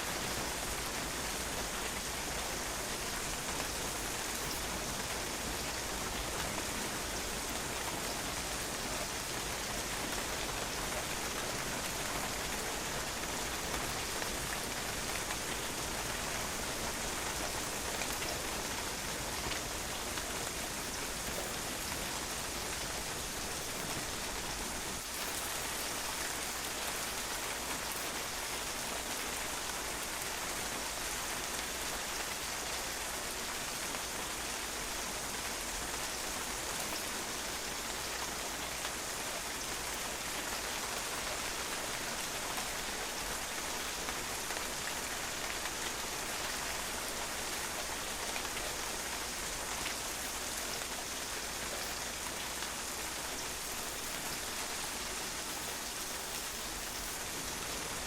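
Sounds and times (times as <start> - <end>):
rain pattering on a patio: 0.0 - 58.0.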